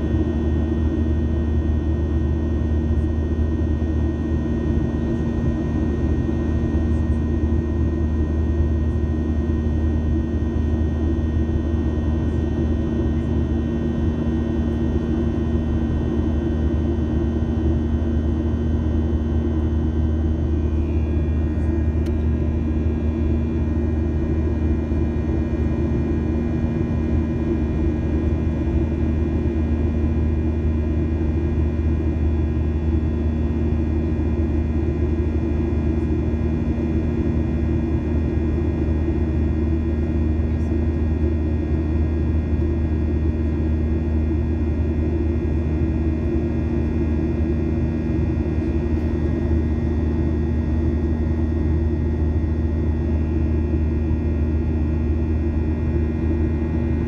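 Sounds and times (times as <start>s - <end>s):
jet engines and airflow rumble: 0.0s - 57.0s.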